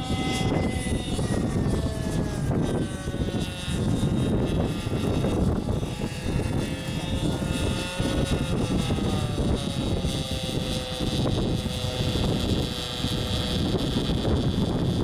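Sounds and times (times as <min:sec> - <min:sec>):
rc helicopter engine and rotor whine: 0:00.0 - 0:15.0
wind buffeting microphone: 0:00.0 - 0:15.0.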